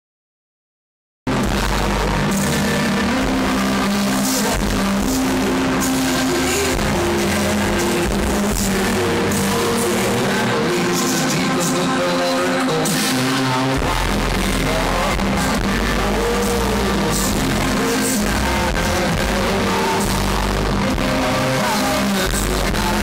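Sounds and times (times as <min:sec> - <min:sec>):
live rock band: 0:01.3 - 0:23.0.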